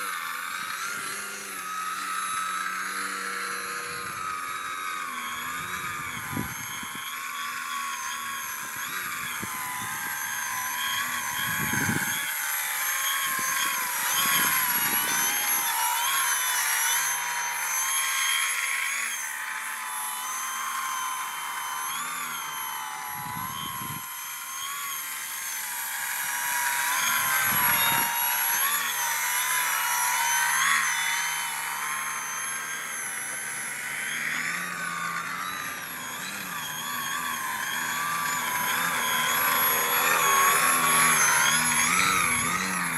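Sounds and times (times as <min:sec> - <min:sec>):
model plane motor whining: 0:00.0 - 0:42.9.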